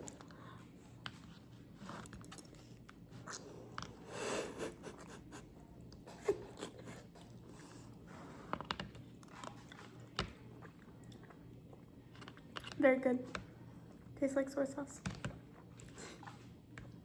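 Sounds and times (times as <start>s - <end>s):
quiet chewing: 0.0s - 14.1s.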